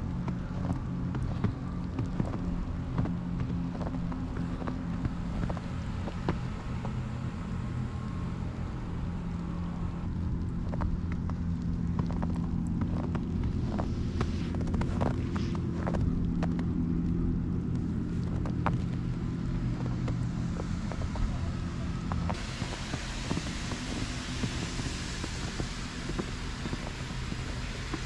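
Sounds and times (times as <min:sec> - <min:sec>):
engine idling drone: 0:00.0 - 0:28.0
light crunches and clicks: 0:00.1 - 0:07.3, 0:09.2 - 0:28.0.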